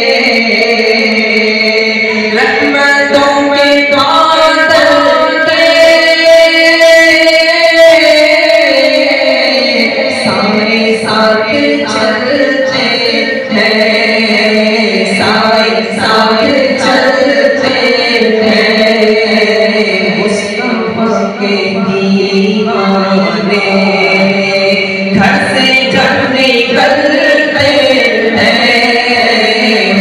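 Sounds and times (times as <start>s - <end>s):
voices singing devotional song: 0.0s - 30.0s.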